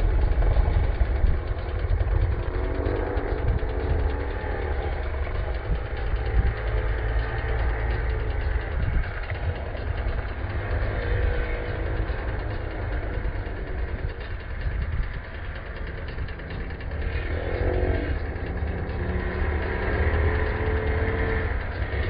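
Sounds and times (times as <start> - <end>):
dirt bike engines running: 0.0 - 22.0
dirt bike revving: 0.0 - 22.0
heavy low rumble: 0.0 - 22.0.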